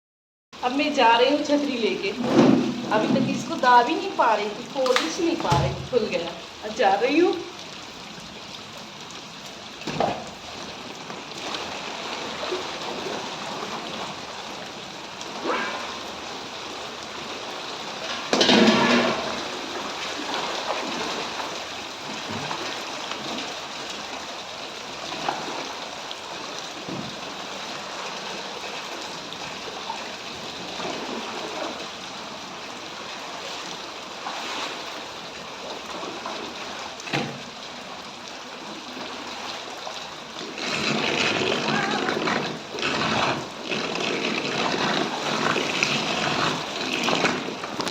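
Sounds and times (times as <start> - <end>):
heavy rain pouring: 0.6 - 47.9
water splashing and running: 0.6 - 47.9.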